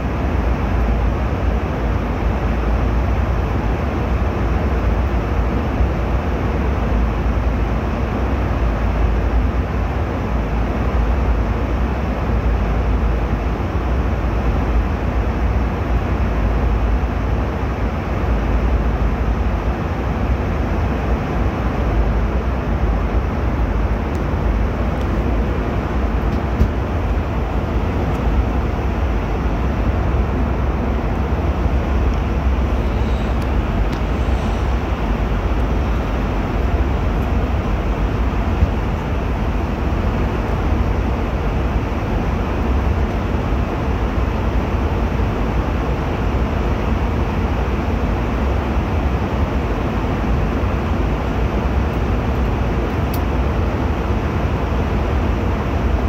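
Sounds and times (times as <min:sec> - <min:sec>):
airliner cabin engine and airflow rush: 0:00.0 - 0:56.0.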